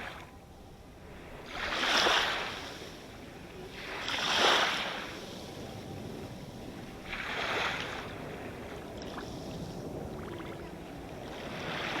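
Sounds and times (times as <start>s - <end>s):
sea waves washing onto shore: 1.1s - 12.0s.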